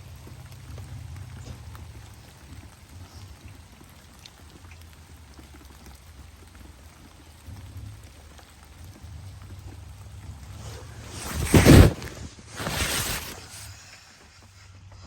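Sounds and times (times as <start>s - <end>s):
light rain falling: 0.0s - 14.8s.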